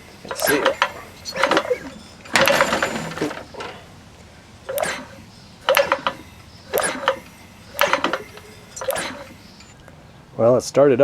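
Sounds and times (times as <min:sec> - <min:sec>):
small engine cranked by hand: 0:00.0 - 0:04.0, 0:04.6 - 0:09.9.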